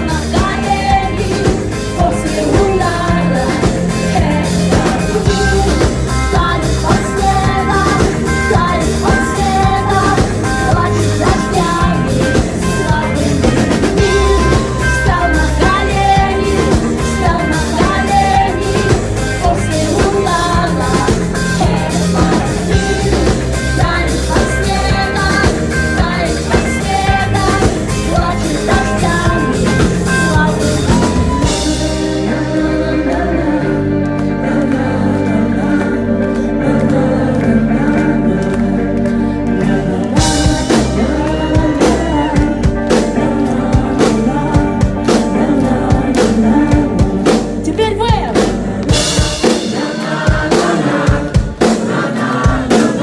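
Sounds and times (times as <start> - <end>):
drum kit steady beat: 0.0 - 32.4, 39.6 - 53.0
live rock band music: 0.0 - 53.0.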